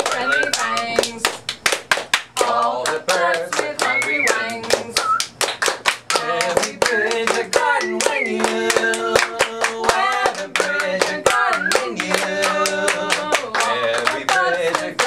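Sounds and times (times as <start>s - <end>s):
voices singing together: 0.0s - 1.4s, 2.3s - 15.0s
hand claps: 0.0s - 15.0s.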